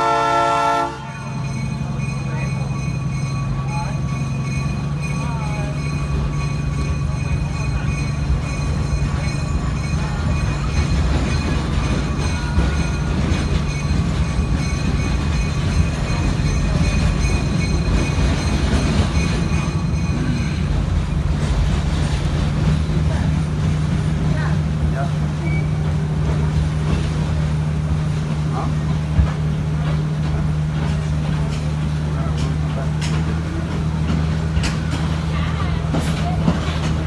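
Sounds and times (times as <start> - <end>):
train low drone: 0.0 - 37.0
train wheels rumbling on track: 0.0 - 37.0.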